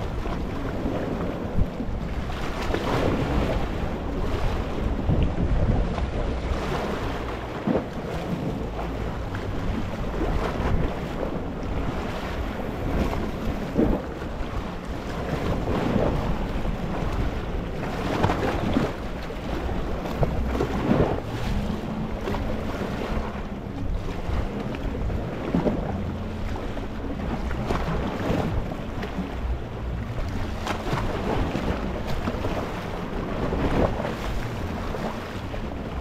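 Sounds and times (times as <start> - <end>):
sea waves lapping on rocks: 0.0 - 36.0
water splash: 1.6 - 36.0.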